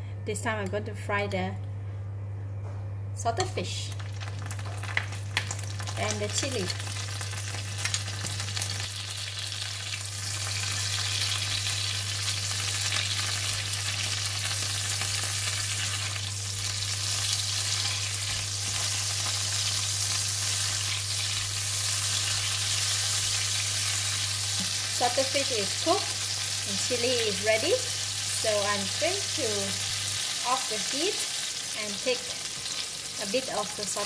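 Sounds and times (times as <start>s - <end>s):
fish frying in hot oil: 4.0s - 33.4s.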